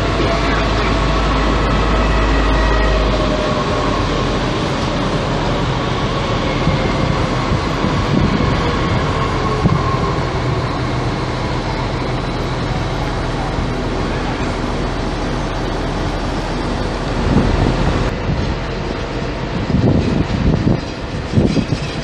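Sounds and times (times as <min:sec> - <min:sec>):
electric train whine: 0:00.0 - 0:22.0
wheels rumbling on rail: 0:00.0 - 0:22.0.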